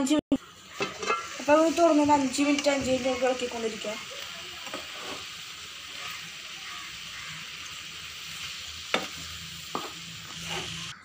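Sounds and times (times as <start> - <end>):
tomatoes sizzling in a pan: 0.3 - 11.0.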